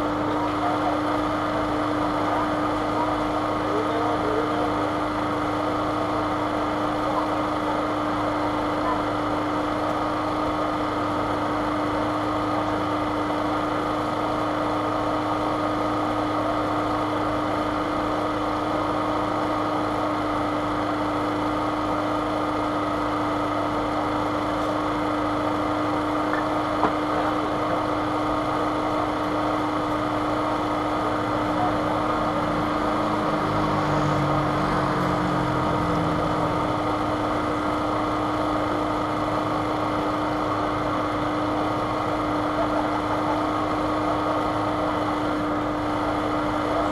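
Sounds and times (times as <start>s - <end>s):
steady mechanical hum: 0.0s - 46.9s.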